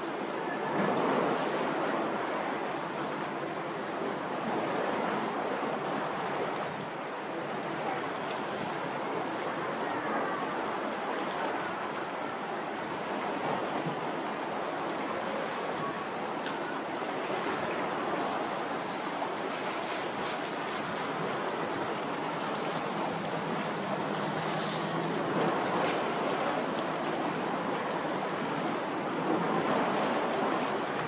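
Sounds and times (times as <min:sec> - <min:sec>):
water noise: 0:00.0 - 0:31.0
wind: 0:00.0 - 0:31.0.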